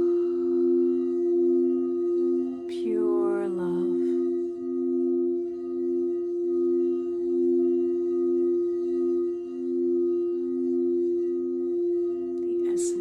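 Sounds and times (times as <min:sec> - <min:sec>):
crystal singing bowls ringing: 0:00.0 - 0:13.0.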